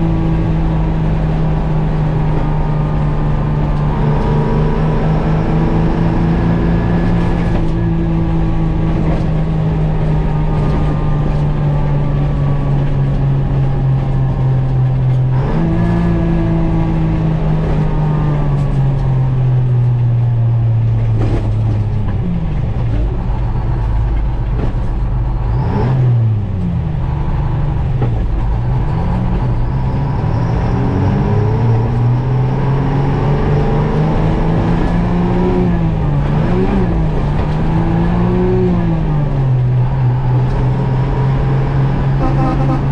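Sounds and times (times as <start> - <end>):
diesel truck engine under load: 0.0 - 42.9.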